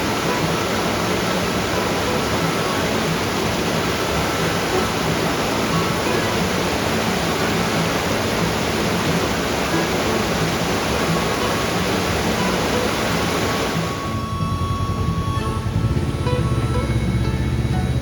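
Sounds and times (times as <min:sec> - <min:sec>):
music: 0:00.0 - 0:18.0
rushing mountain stream: 0:00.0 - 0:18.0.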